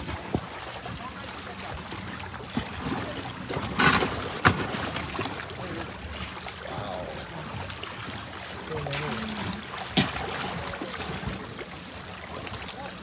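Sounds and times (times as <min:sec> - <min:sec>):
water sloshing against boat: 0:00.0 - 0:13.0.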